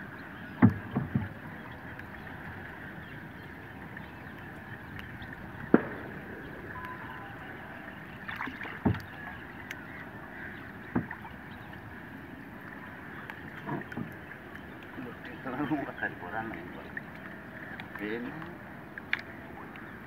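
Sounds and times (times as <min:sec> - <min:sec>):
water wash: 0:00.0 - 0:20.0
wind: 0:00.0 - 0:20.0.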